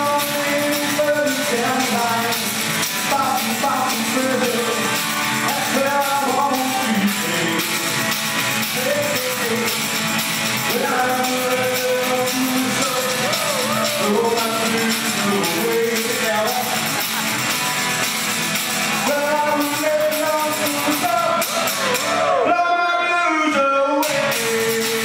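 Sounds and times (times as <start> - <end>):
man singing into a microphone: 0.0 - 17.2, 19.0 - 25.0
acoustic guitar: 0.0 - 25.0.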